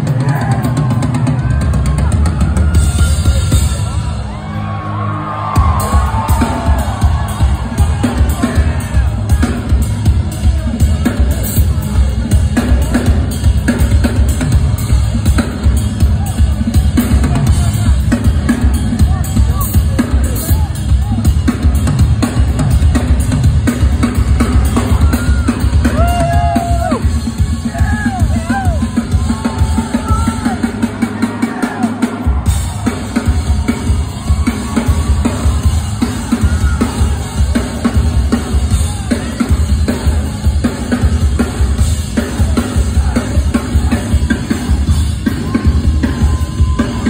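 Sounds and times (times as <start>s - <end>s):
drum kit solo: 0.0s - 47.0s.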